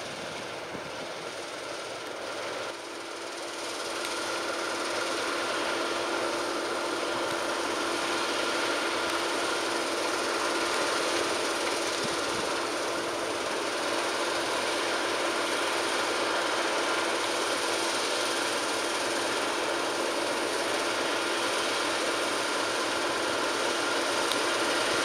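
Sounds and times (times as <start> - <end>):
combine harvester droning: 0.0 - 25.0
constant machine whine: 0.0 - 25.0.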